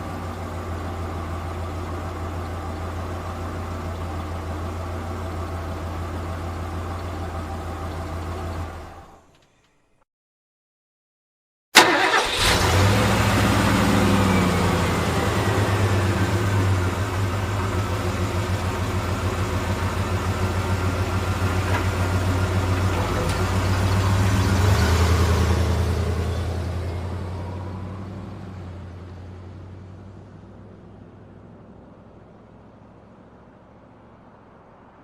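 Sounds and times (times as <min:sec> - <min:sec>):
vehicle engine humming: 0:00.0 - 0:09.5, 0:11.8 - 0:35.0.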